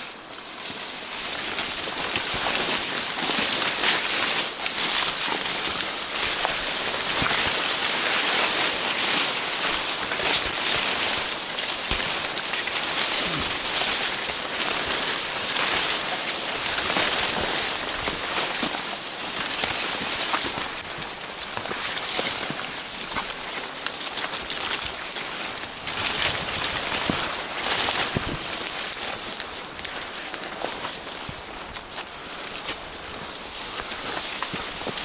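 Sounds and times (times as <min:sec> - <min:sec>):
wet leaves and branches rustling: 0:00.0 - 0:35.0.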